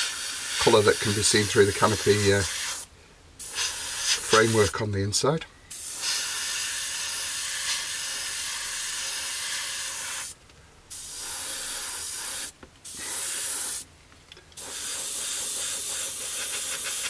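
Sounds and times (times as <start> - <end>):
airbrush spraying hiss: 0.0 - 4.8, 5.7 - 13.9, 14.6 - 17.0.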